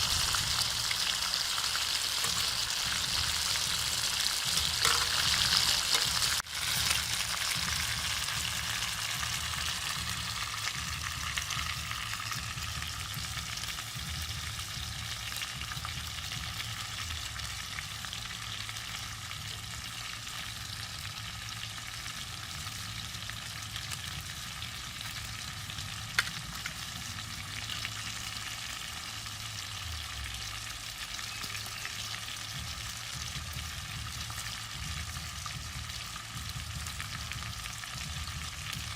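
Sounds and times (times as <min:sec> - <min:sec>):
ribs sizzling in hot oil: 0:00.0 - 0:38.9.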